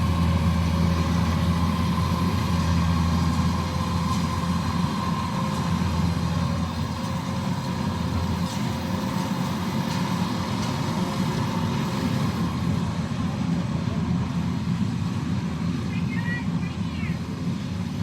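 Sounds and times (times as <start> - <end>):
harvester engine droning: 0.0 - 18.0.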